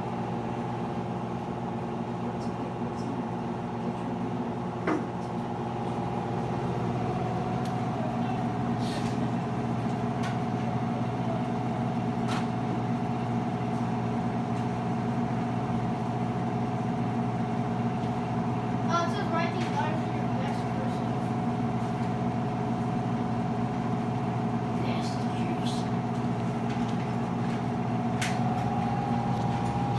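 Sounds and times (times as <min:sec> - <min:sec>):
washing machine spinning: 0:03.3 - 0:29.9.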